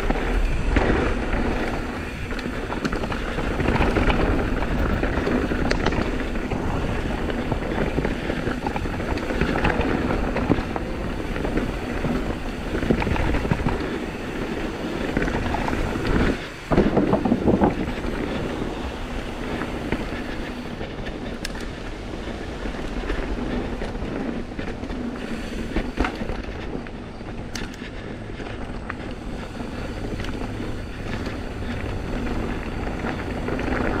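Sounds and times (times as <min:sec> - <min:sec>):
mountain bike rattling over trail: 0:00.0 - 0:34.0.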